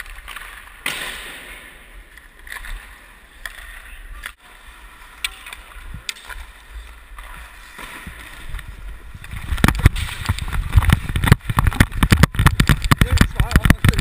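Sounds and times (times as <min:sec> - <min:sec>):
skates scraping on ice: 0:00.0 - 0:01.0, 0:01.7 - 0:14.0.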